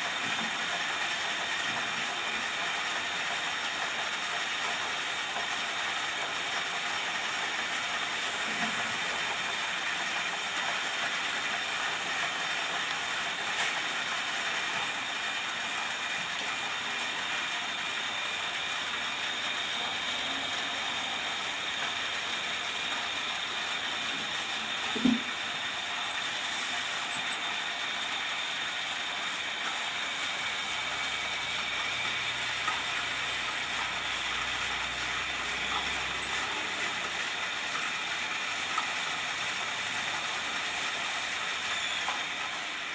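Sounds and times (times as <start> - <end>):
metal lathe running: 0.0 - 42.9.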